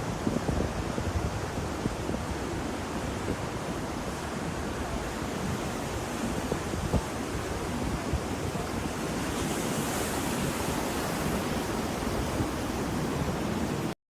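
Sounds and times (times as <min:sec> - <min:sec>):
ocean surf washing in: 0:00.0 - 0:14.0.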